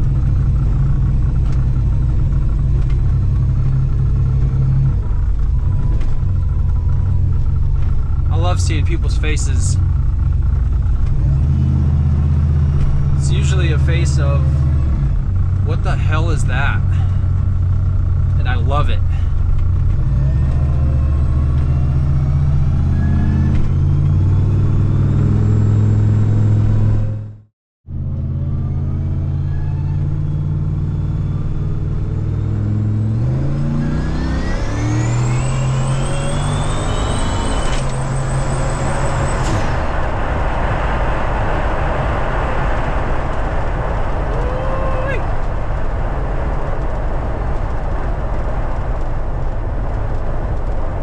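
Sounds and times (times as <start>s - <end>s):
car engine accelerating: 0.0s - 51.0s
road noise: 0.0s - 51.0s
turbo whine: 0.0s - 51.0s.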